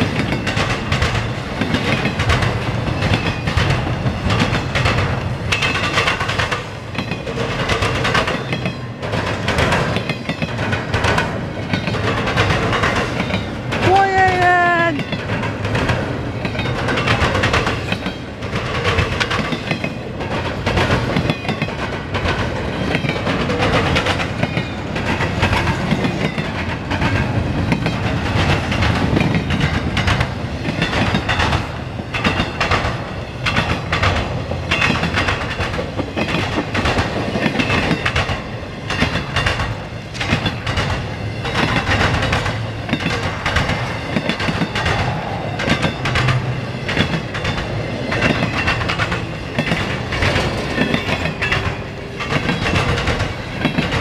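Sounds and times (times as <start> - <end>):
wheels clacking over rail joints: 0.0 - 13.9, 15.0 - 54.0
freight train rumbling: 0.0 - 54.0.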